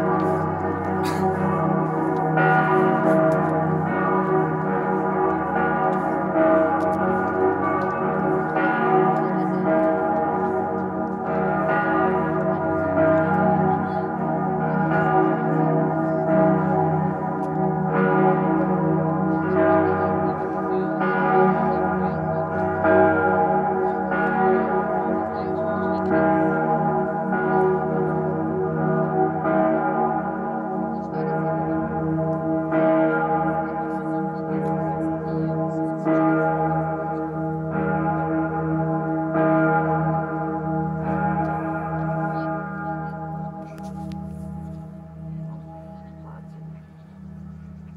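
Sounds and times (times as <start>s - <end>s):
large bells ringing in peal: 0.0s - 47.9s.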